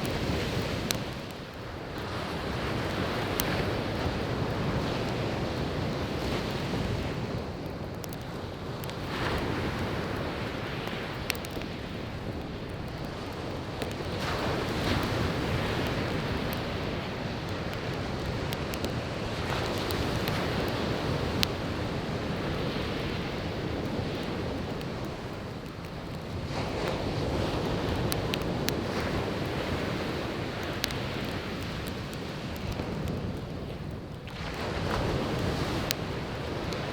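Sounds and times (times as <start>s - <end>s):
firewood crackling: 0.0s - 36.9s
surf washing onto beach: 0.0s - 36.9s.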